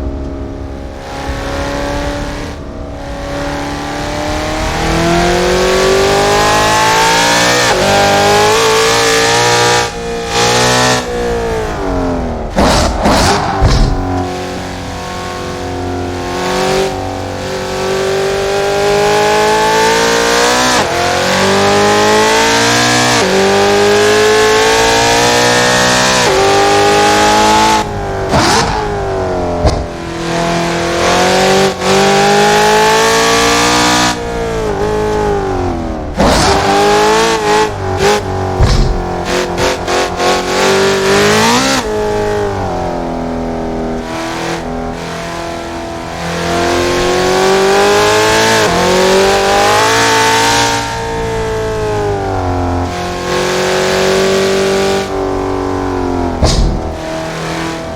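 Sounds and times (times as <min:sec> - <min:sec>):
car engine revving through gears: 0:00.0 - 0:57.9.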